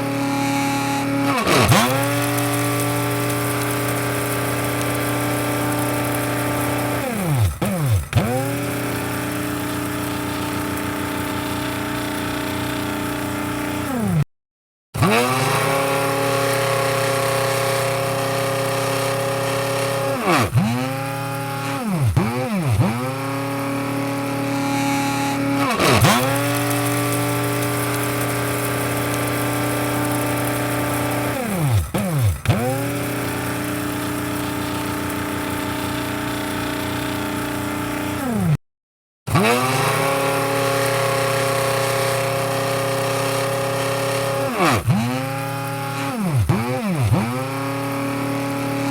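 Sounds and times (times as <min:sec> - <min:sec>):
coffee grinder motor whine: 0:00.0 - 0:14.3, 0:15.0 - 0:38.6, 0:39.3 - 0:48.9.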